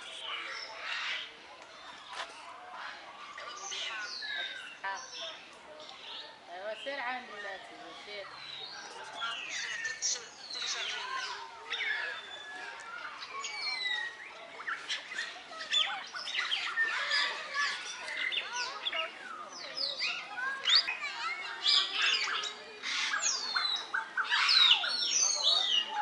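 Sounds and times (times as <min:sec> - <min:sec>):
chorus of birds calling: 0:00.0 - 0:26.0.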